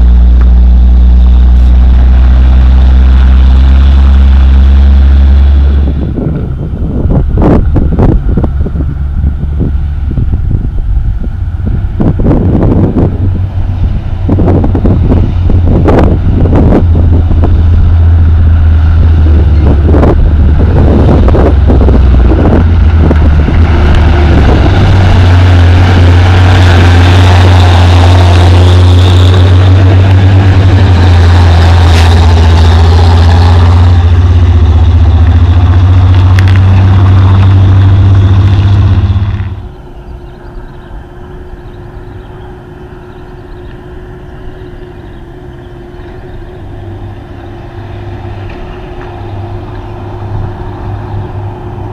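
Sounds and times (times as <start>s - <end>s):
faint engine hum: 0.0s - 51.9s
truck diesel engine driving past: 0.0s - 51.9s.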